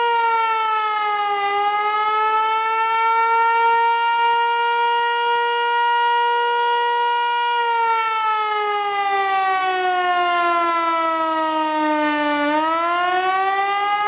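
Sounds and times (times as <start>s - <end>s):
electronic warning siren: 0.0s - 14.0s.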